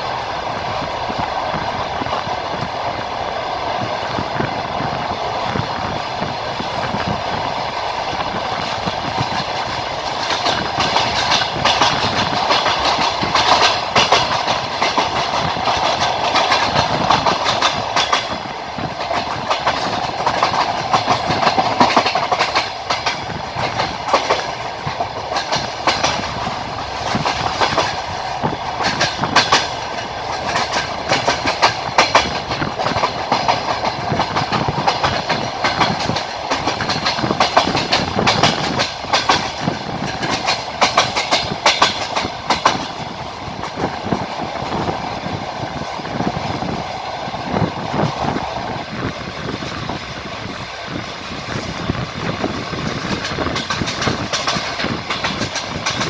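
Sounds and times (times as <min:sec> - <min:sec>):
train rumbling: 0:00.0 - 0:56.0
wheels clacking over rail joints: 0:00.0 - 0:56.0.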